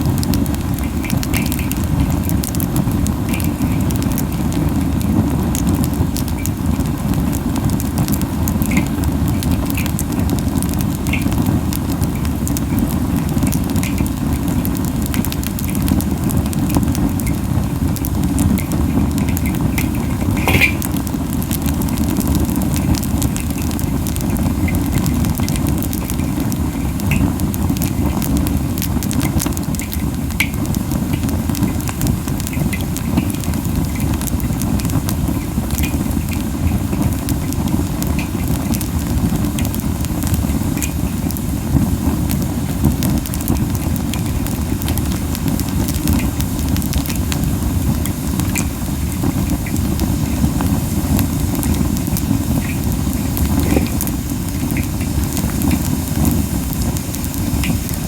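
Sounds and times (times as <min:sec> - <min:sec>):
fire crackling and popping: 0:00.0 - 0:58.0
fire flame rushing: 0:00.0 - 0:58.0.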